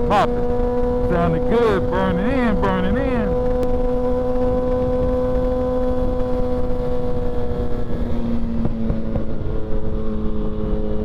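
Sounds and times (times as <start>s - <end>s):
motorcycle engine cruising: 0.0s - 10.6s.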